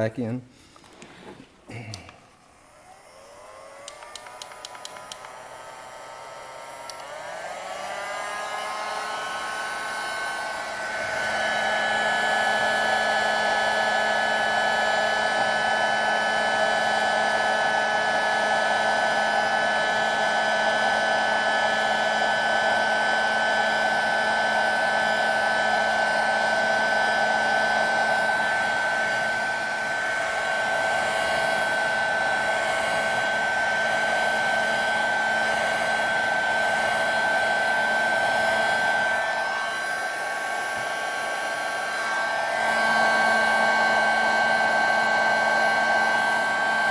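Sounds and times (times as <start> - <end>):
heat gun fan whining: 0.0 - 46.9.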